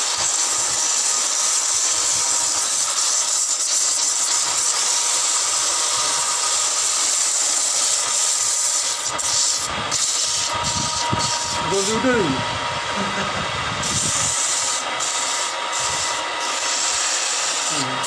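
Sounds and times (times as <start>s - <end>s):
wood lathe sanding hiss: 0.0s - 18.0s.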